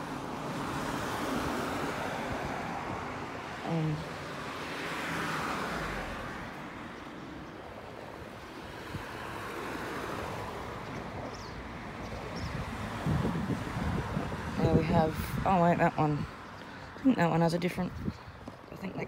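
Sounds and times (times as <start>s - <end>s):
vehicle passing by: 0.0s - 17.1s
road traffic hum: 0.0s - 19.0s.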